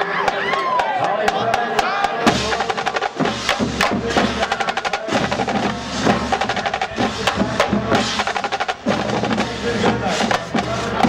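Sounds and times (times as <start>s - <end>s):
drum line playing cadence: 0.0s - 11.0s.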